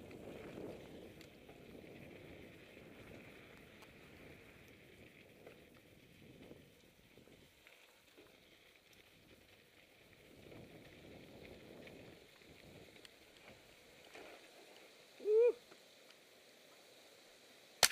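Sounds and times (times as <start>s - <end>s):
mountain bike rolling on dirt: 0.0s - 17.8s.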